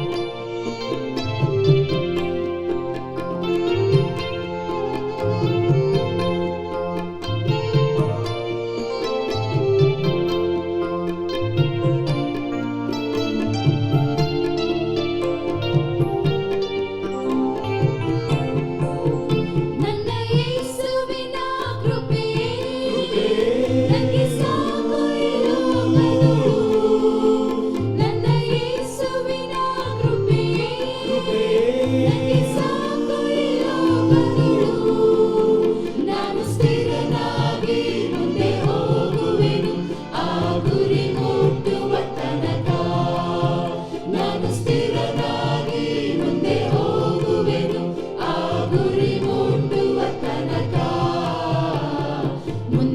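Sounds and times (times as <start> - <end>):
choir singing: 0.0 - 52.9
instrumental accompaniment: 0.0 - 52.9.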